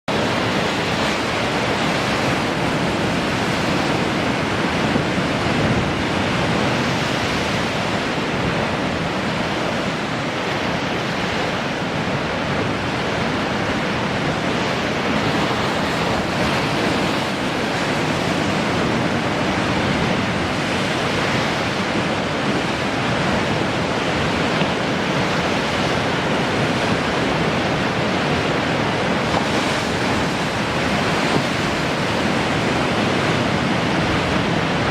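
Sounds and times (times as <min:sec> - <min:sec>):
sea waves breaking: 0:00.1 - 0:34.9.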